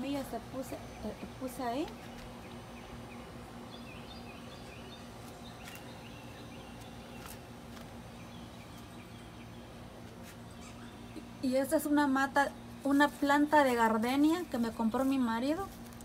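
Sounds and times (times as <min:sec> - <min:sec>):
small birds chirping: 0:00.0 - 0:15.8
low steady hum: 0:00.0 - 0:16.0.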